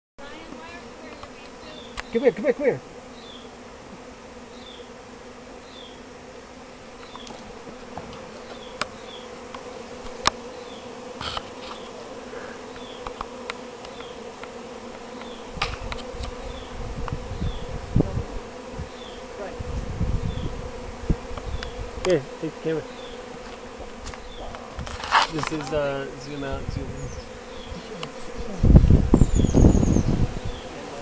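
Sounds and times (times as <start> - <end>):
bee swarm humming: 0.2 - 31.0.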